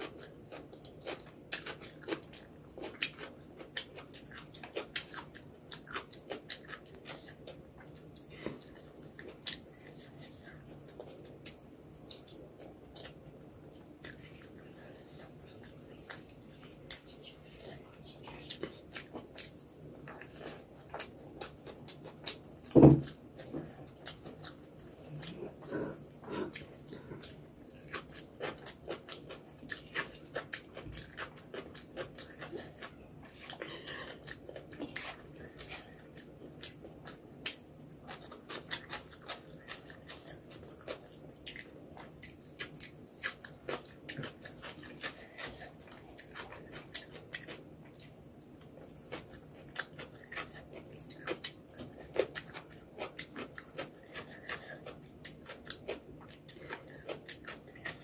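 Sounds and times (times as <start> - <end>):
chewing and lip-smacking: 0.0 - 58.0.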